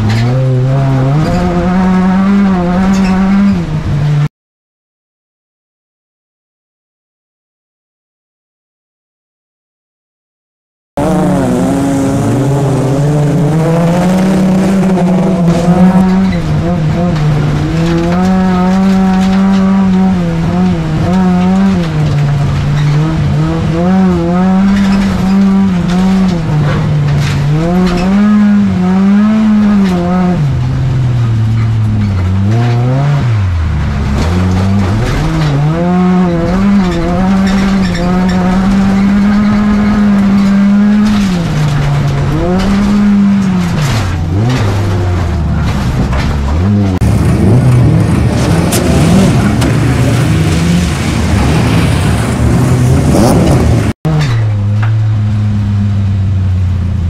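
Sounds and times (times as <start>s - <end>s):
car engine revving: 0.0s - 4.3s, 11.0s - 57.0s.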